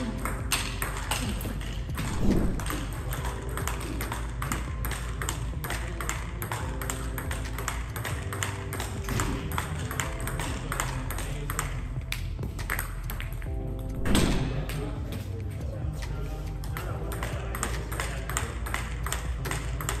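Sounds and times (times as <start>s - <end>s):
table tennis ball clicking: 0.0s - 13.5s, 16.6s - 20.0s.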